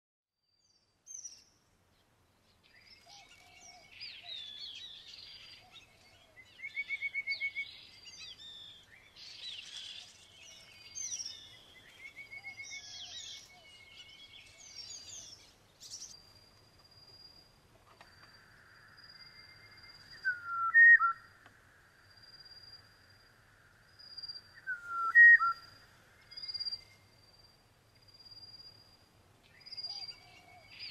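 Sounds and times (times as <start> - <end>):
songbirds singing and calling: 0.6 - 30.9.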